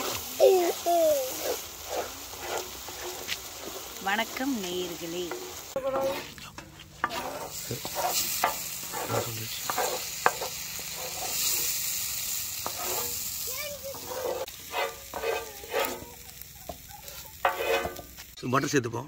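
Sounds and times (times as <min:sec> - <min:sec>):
light sizzle on griddle: 0:00.0 - 0:18.4
spatula scraping iron griddle: 0:00.0 - 0:18.4.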